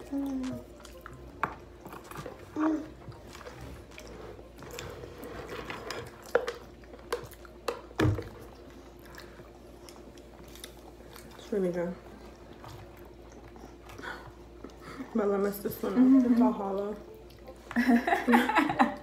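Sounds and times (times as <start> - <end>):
people chewing food: 0.0 - 19.0.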